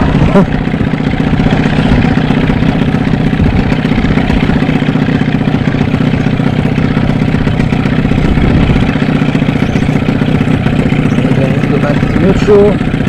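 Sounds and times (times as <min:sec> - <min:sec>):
outboard motor puttering: 0:00.0 - 0:13.0.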